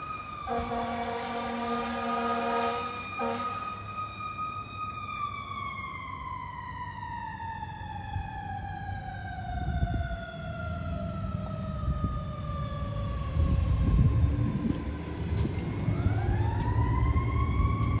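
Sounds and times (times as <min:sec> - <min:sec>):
fire truck siren wailing: 0:00.0 - 0:18.0
truck engine rumble: 0:00.0 - 0:18.0.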